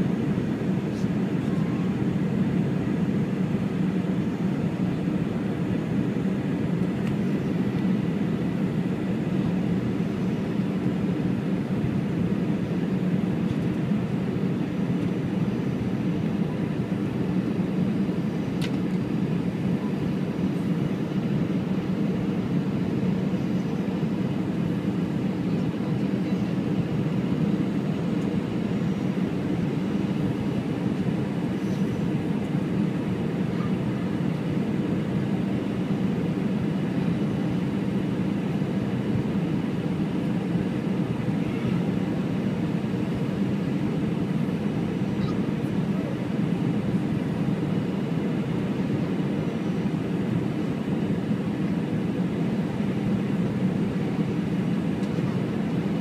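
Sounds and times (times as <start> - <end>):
jet engine and airflow drone: 0.0 - 56.0.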